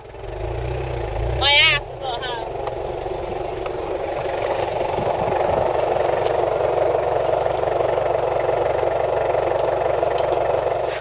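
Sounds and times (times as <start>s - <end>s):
car engine driving: 0.0s - 11.0s
tyres on dirt road: 0.0s - 11.0s.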